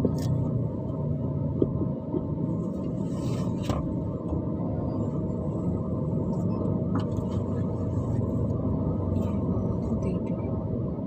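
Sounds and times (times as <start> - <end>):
car idling: 0.0 - 11.0
road traffic rumble: 0.0 - 11.0.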